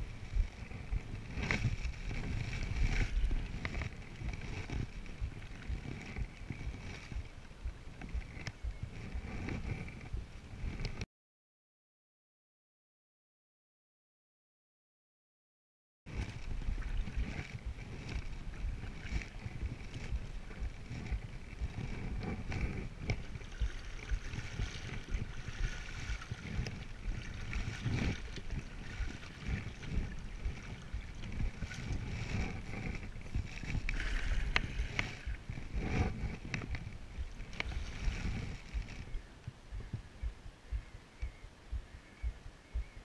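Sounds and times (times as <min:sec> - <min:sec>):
paddle dipping through water: 0:00.0 - 0:11.0, 0:16.1 - 0:43.0
water washing along hull: 0:00.0 - 0:11.0, 0:16.1 - 0:40.9
wind on microphone: 0:00.0 - 0:11.0, 0:16.1 - 0:43.0.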